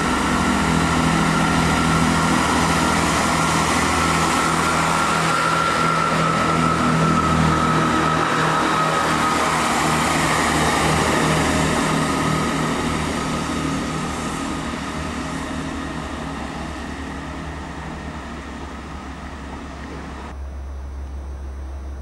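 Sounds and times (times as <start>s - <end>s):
diesel train engine running: 0.0s - 22.0s.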